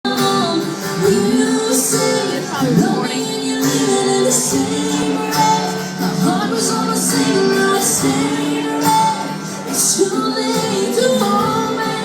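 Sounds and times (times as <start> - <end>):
acoustic guitar: 0.0 - 12.0
woman singing country song: 0.0 - 12.0.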